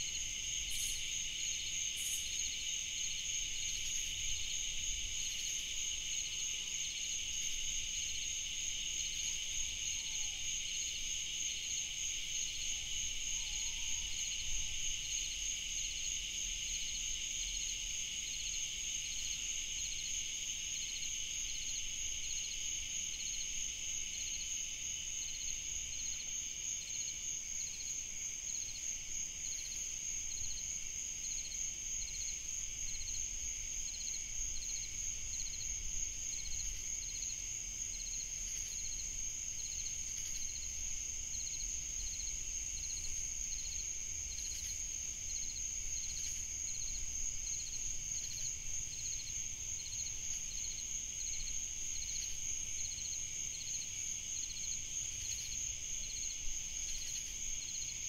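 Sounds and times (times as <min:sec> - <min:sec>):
soft cricket chirps: 0:00.0 - 0:58.0.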